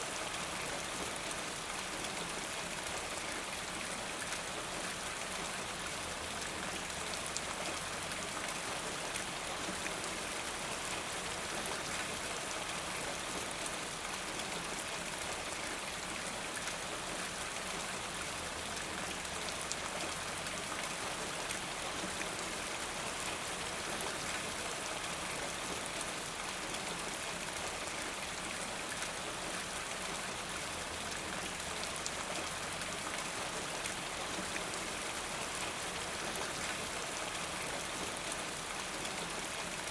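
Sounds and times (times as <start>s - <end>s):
steady rain with drop ticks: 0.0s - 39.9s.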